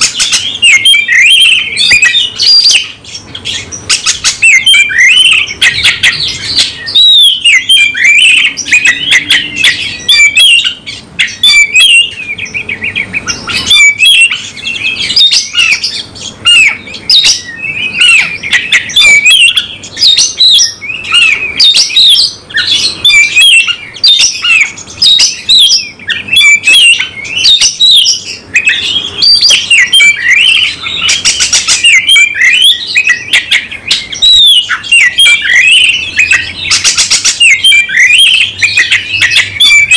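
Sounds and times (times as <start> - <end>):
songbird singing whistled phrases: 0.0 - 39.9.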